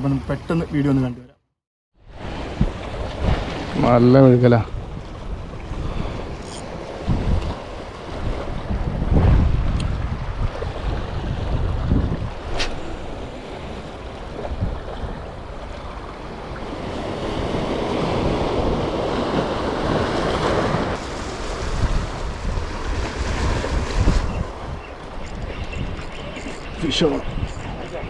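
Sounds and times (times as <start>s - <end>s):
wind rumbling on microphone: 2.0s - 28.0s.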